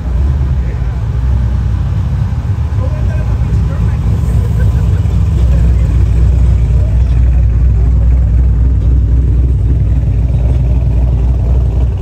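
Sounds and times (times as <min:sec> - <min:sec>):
low steady exhaust note: 0:00.0 - 0:12.0.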